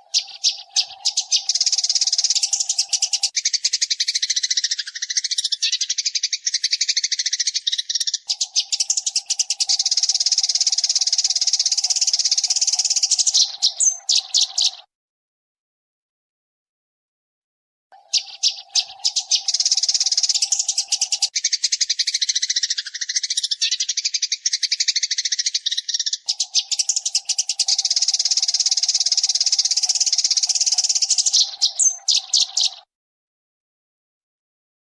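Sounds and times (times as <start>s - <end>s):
sparrow chirping: 0.0s - 14.9s, 18.0s - 32.9s.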